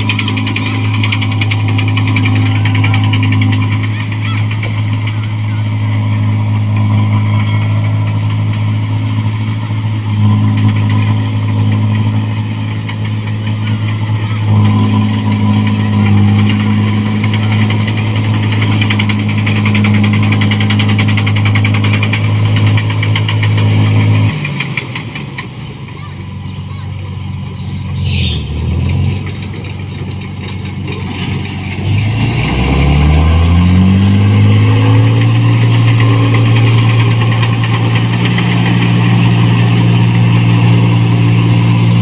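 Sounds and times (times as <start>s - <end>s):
combine harvester diesel engine: 0.0s - 42.0s.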